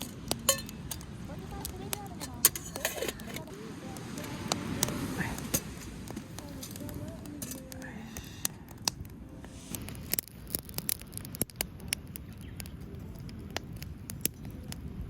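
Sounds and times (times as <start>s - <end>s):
campfire crackling and popping: 0.0s - 15.0s
low steady rush: 0.0s - 15.0s.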